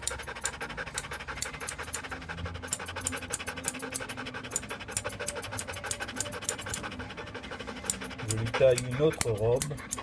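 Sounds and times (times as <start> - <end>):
scissors snipping hair: 0.0 - 7.0, 7.8 - 10.0.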